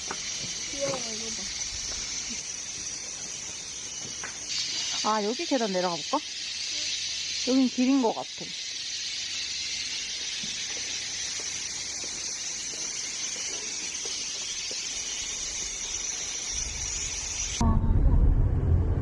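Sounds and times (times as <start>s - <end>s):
high-pitched insect chorus: 0.0s - 17.6s.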